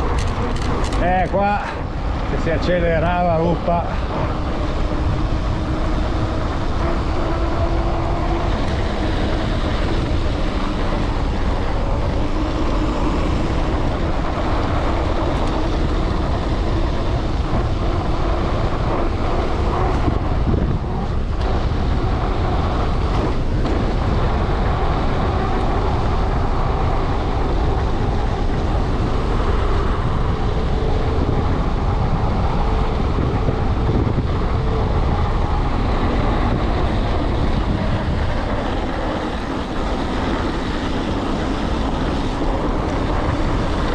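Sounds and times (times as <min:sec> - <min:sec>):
bike tyres rolling over snow: 0:00.0 - 0:43.9
wind buffeting microphone: 0:00.0 - 0:43.9.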